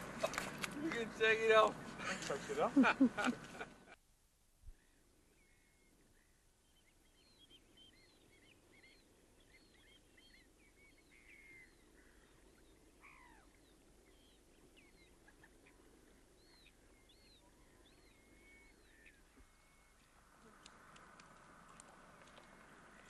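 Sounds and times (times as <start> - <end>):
birds chirping: 0.0 - 4.0, 4.7 - 23.0
steady low background noise: 0.0 - 23.0.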